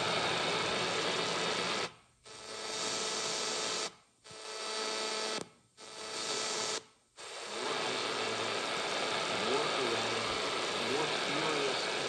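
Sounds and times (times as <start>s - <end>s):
shortwave radio static: 0.0s - 5.4s, 6.0s - 12.0s.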